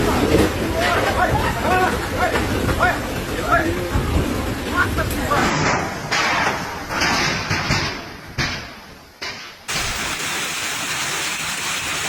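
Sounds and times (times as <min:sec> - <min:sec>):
heavy rain: 0:00.0 - 0:07.8, 0:09.7 - 0:12.0
storm wind: 0:00.0 - 0:12.0.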